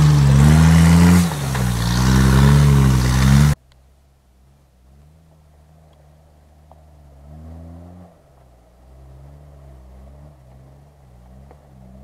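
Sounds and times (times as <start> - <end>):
suv engine revving under load: 0.0 - 3.6, 4.8 - 12.0.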